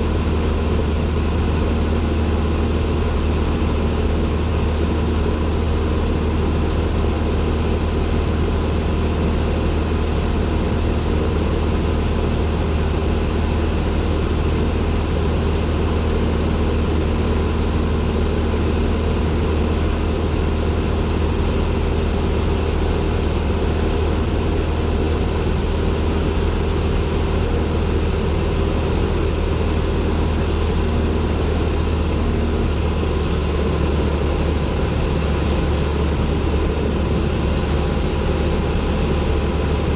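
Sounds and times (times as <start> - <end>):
airplane engine droning in cockpit: 0.0 - 39.9.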